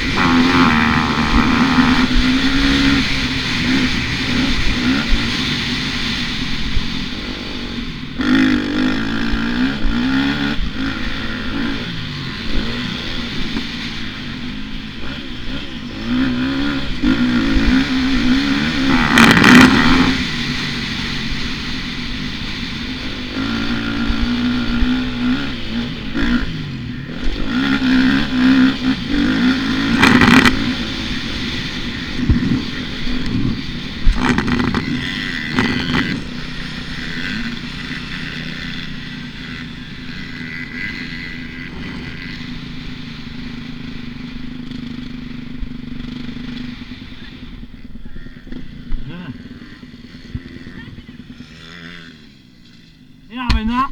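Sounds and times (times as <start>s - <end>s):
loud rushes of noise: 0.0s - 44.0s
motocross bike engine revving: 0.0s - 53.9s.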